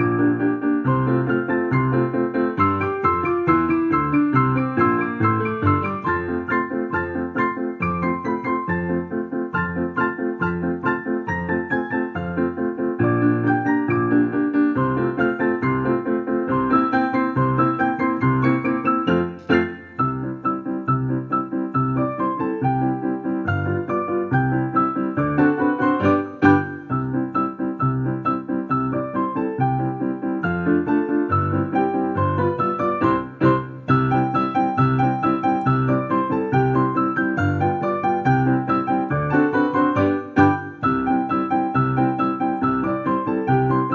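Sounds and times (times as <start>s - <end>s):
digital piano duet: 0.0s - 43.9s.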